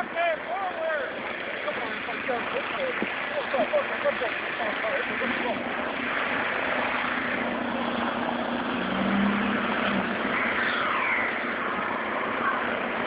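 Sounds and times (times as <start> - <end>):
car engine running: 0.0 - 13.0
steady rushing noise: 0.0 - 13.0.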